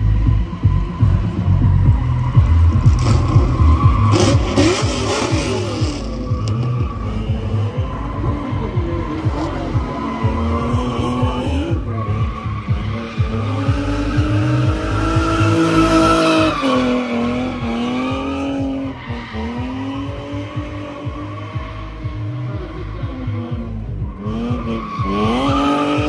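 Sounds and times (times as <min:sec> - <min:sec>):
car engine revving hard: 0:00.0 - 0:26.0
tires squealing: 0:00.0 - 0:26.0.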